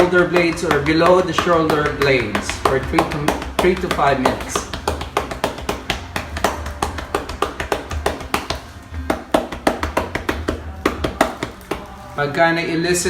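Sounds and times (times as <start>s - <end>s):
cupped hands clapping on a back: 0.0s - 11.9s
background music: 0.0s - 13.0s.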